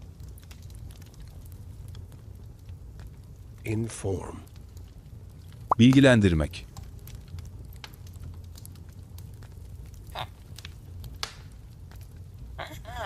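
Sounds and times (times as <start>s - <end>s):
crackling clicks and pops: 0.0s - 12.6s.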